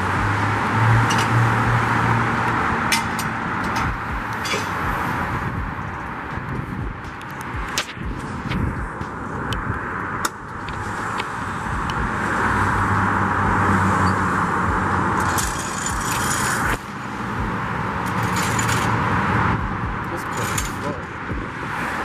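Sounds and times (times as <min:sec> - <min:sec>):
passing traffic road noise: 0:00.0 - 0:22.0.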